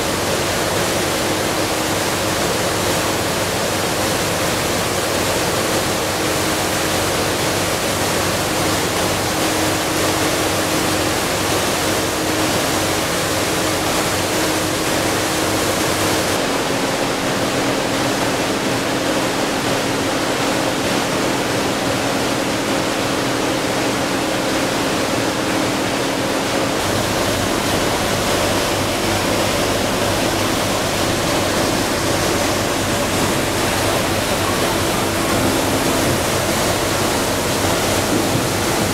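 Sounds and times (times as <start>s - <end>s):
water rushing past boat hull: 0.0s - 38.9s.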